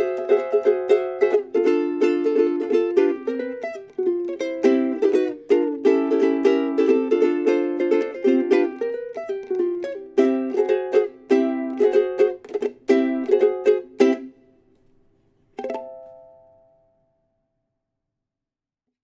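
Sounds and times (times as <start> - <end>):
solo ukulele playing chords: 0.0 - 14.6, 15.5 - 17.1.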